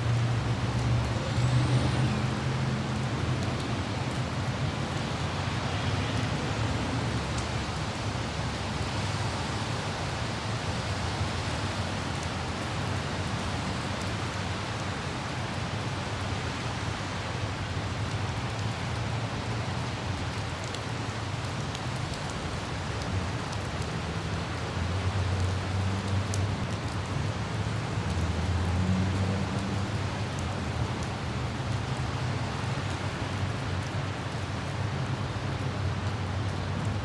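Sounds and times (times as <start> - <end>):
light rain: 0.0 - 37.0.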